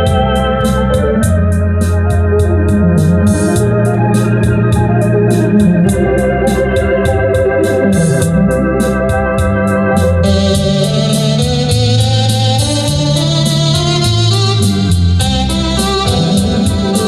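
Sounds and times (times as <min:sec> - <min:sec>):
bright organ voice: 0:00.0 - 0:17.0
organ playing chords: 0:00.0 - 0:17.0
ticking rhythm accompaniment: 0:00.0 - 0:17.0.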